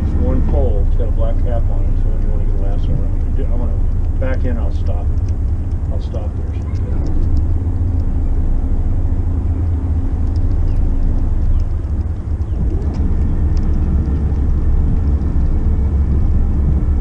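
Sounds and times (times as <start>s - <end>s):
boat engines rumbling: 0.0s - 17.0s.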